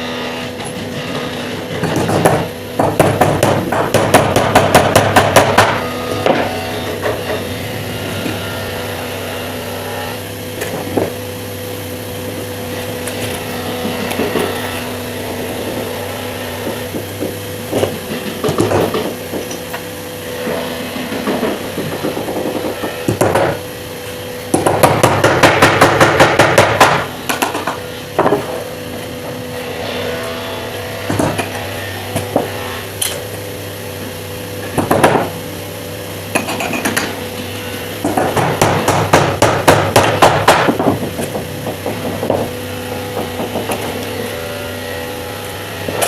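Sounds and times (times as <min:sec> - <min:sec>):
machine hum: 0:00.0 - 0:46.0.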